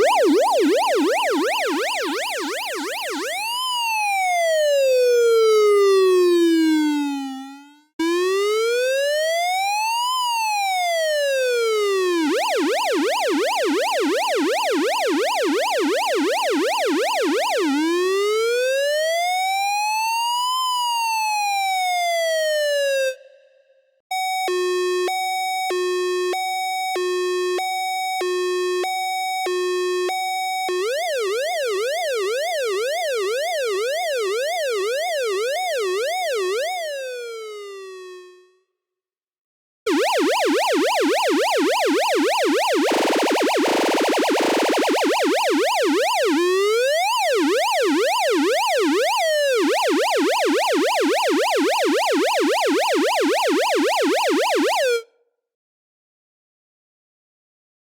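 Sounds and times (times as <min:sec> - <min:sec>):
electronic police siren: 0:00.0 - 0:23.3, 0:24.1 - 0:38.6, 0:39.9 - 0:55.1.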